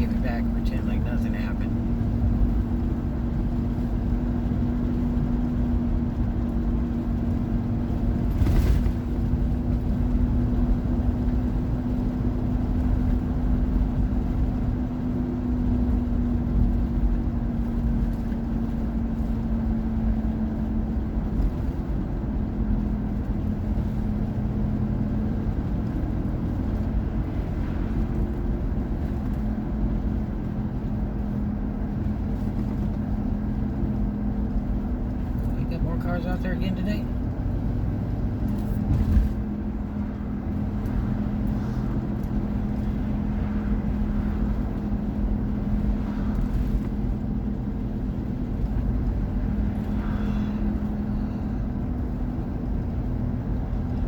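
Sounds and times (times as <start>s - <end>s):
car engine drone: 0.0s - 54.0s
low road rumble: 0.0s - 54.0s.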